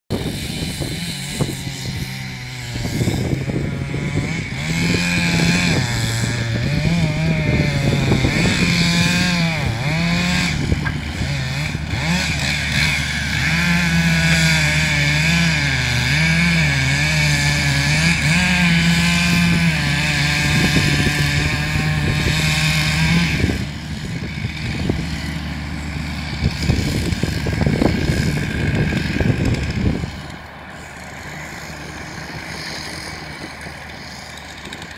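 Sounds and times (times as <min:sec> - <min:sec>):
chainsaw cutting wood at full throttle: 0:00.1 - 0:34.9
diesel engine running: 0:00.1 - 0:34.9.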